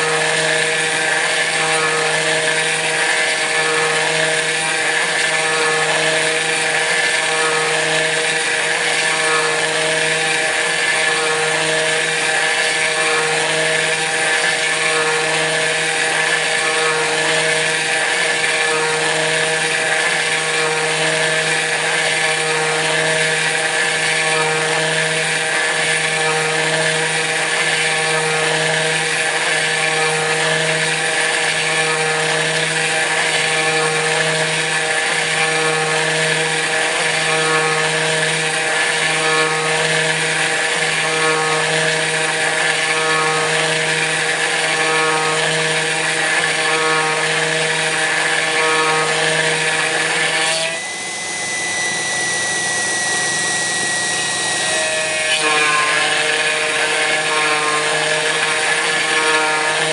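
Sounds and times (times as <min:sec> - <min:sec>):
router milling metal: 0:00.0 - 0:59.9.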